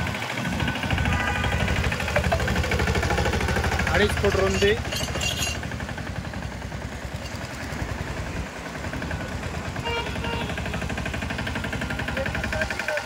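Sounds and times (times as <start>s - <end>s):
small tractor diesel engine: 0.0s - 13.0s.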